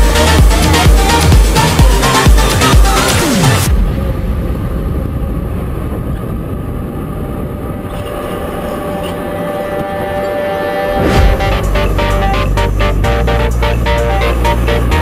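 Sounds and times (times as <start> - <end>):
music: 0.0 - 5.6, 7.9 - 15.0
go-kart engine hum: 0.0 - 15.0.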